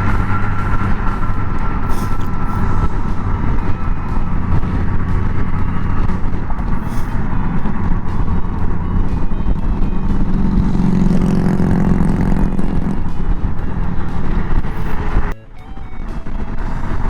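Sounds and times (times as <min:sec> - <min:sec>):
motorcycle engine running: 0:00.0 - 0:17.0
road noise: 0:00.0 - 0:17.0
wind rush: 0:00.0 - 0:17.0.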